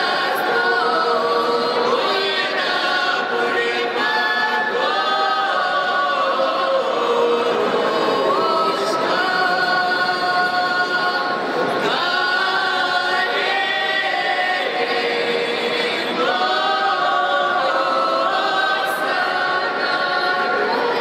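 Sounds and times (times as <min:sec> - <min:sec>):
unaccompanied choir singing in harmony: 0:00.0 - 0:21.0.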